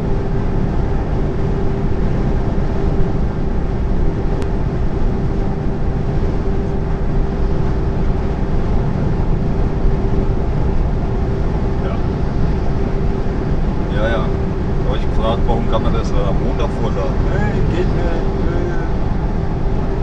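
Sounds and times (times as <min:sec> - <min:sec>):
lorry diesel engine droning: 0:00.0 - 0:20.0
tyres humming on motorway: 0:00.0 - 0:20.0.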